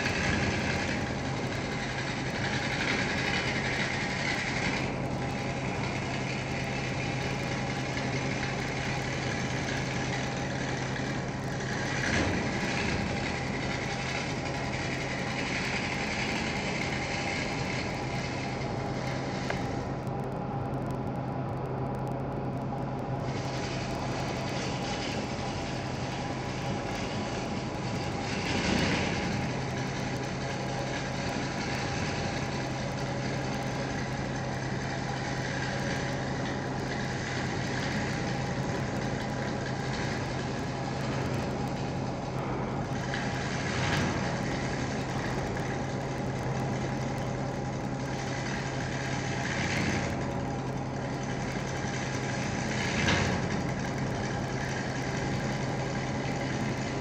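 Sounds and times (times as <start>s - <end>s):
gouge cutting spinning wood: 0.0s - 20.1s, 23.2s - 57.0s
wood lathe humming: 0.0s - 20.2s, 23.2s - 57.0s.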